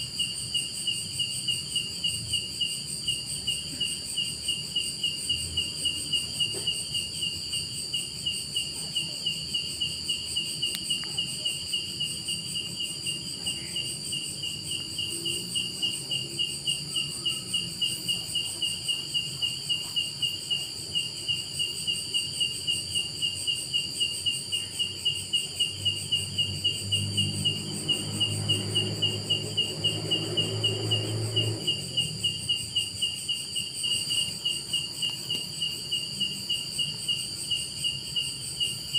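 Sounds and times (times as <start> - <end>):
insect chirping pulse: 0.0 - 38.9
insect trills: 0.0 - 38.9.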